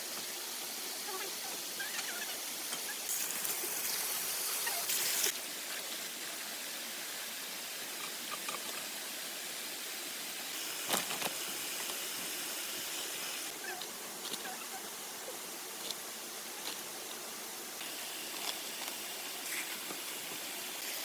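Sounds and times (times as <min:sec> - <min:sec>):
bright hiss: 0:00.0 - 0:21.0.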